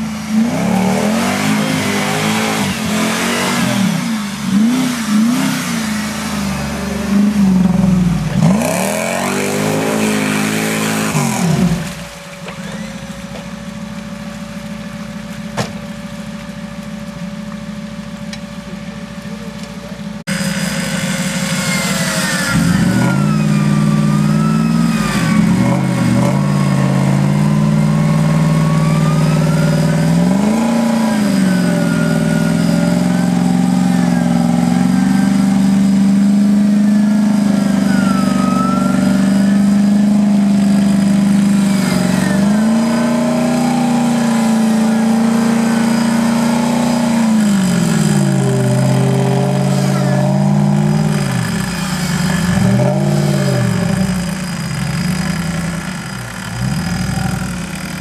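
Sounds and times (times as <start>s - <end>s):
truck engine revving: 0.0s - 13.3s, 18.6s - 58.0s.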